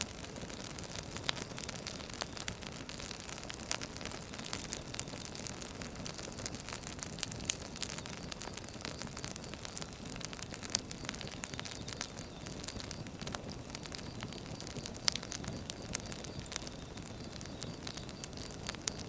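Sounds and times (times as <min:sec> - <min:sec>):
firewood crackling and popping: 0:00.0 - 0:19.0
steady rush of burning fire: 0:00.0 - 0:19.0.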